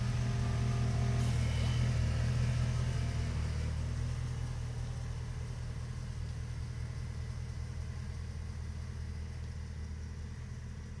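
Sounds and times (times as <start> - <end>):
car engine deep drone: 0.0 - 11.0.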